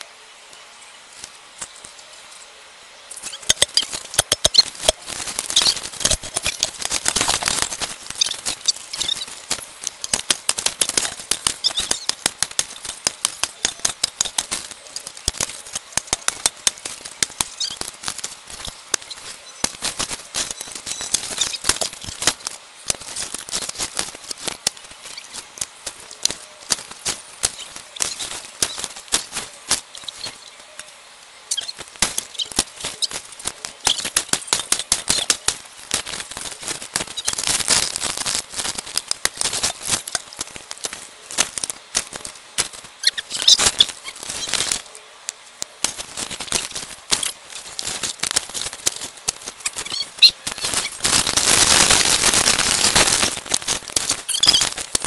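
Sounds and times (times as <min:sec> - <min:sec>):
dry leaves and twigs rustling: 0:00.0 - 0:55.0.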